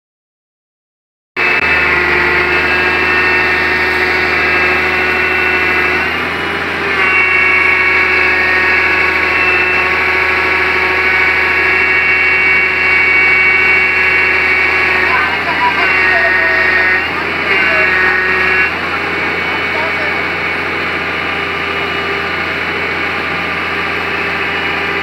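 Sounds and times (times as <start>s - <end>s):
excavator diesel engine running: 1.4s - 25.0s
hydraulic whine: 1.4s - 25.0s.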